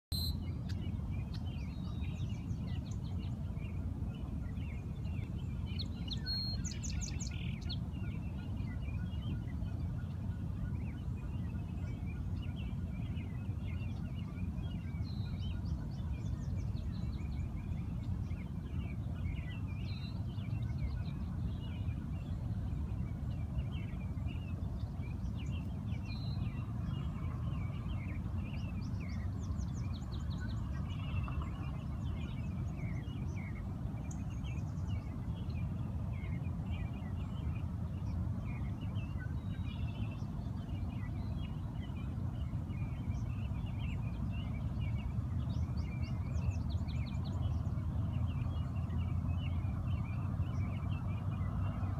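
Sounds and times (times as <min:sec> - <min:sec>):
small birds chirping and singing: 0:00.1 - 0:51.9
steady low rumble: 0:00.1 - 0:51.9.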